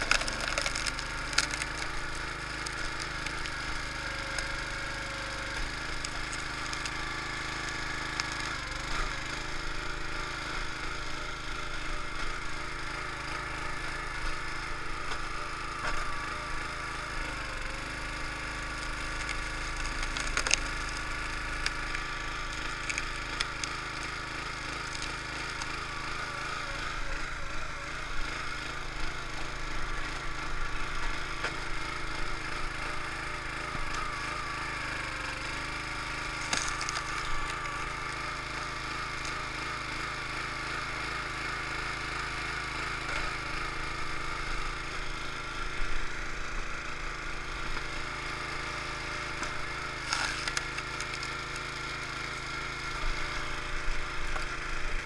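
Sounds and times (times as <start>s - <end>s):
wood cracking and splintering: 0.0s - 41.0s, 41.7s - 55.0s
small engine running: 0.0s - 55.0s.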